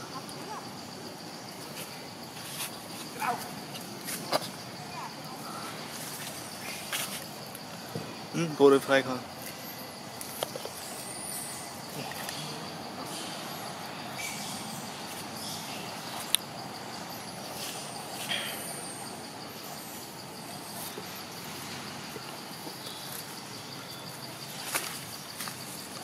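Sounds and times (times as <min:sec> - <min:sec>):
insect trilling: 0:00.0 - 0:26.0.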